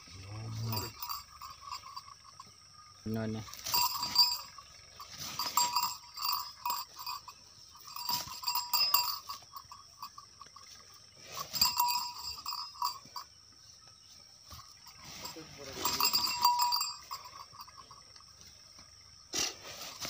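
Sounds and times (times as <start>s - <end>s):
small metal bells jingling: 0.0s - 20.0s.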